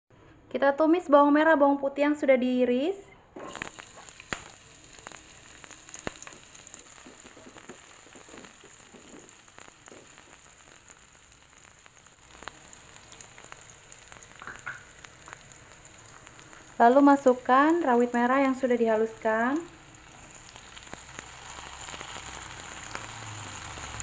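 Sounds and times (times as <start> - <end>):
shallots and garlic sizzling in oil: 3.4 - 24.0.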